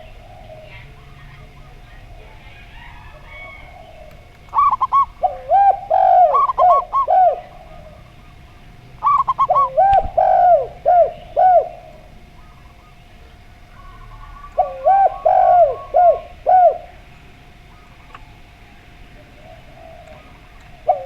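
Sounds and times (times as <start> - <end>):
dove cooing: 0.0 - 21.0
faint steady hum: 0.0 - 21.0.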